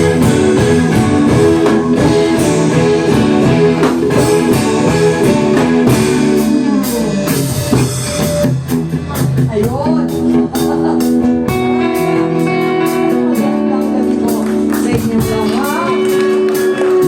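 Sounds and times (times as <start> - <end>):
drum kit: 0.0 - 17.0
guitars playing: 0.0 - 17.0.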